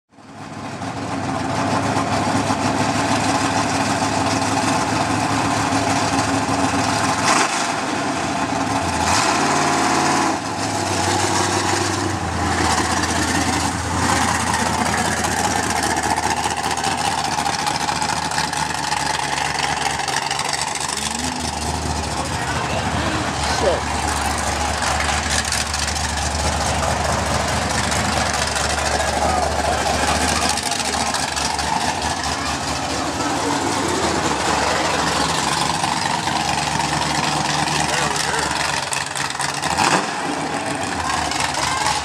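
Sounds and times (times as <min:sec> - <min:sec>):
car engine revving: 0:01.3 - 0:42.0.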